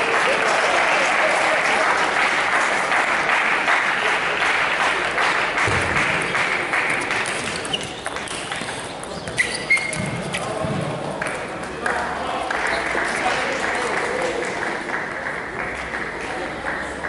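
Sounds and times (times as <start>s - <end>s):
audience applauding: 0.0s - 8.2s, 11.2s - 17.0s.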